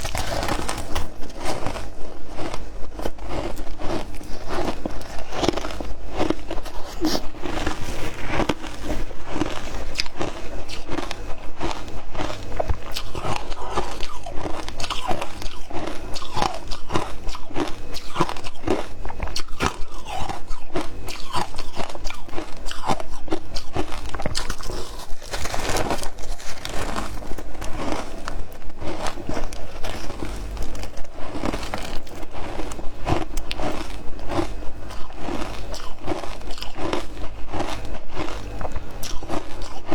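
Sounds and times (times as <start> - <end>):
crunching and chewing ice: 0.0 - 39.9.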